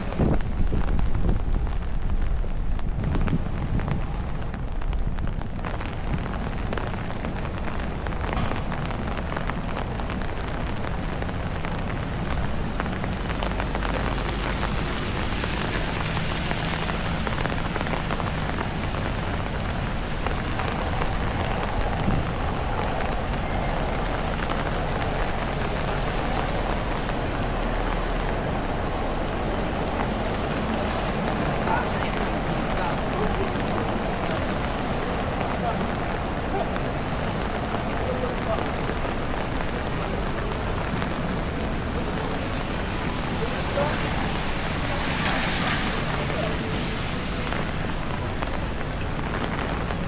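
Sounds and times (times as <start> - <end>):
heavy rain on surfaces: 0.0 - 50.0.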